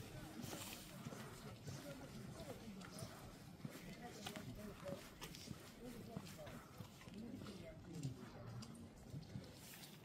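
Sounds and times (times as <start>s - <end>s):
footsteps on wet pavement: 0.0s - 10.0s.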